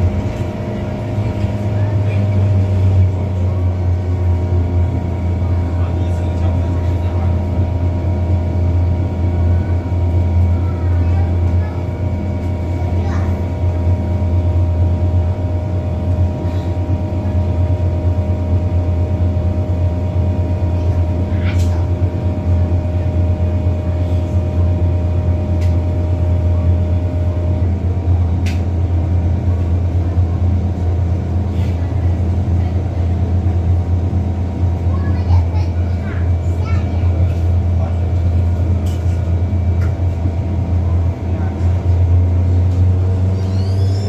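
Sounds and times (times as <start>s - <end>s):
train running with low hum: 0.0s - 44.0s.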